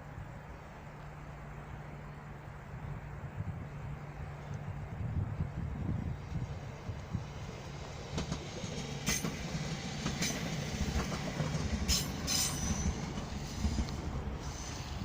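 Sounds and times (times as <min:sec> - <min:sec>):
train wheels rumbling on rails: 0:02.8 - 0:15.0.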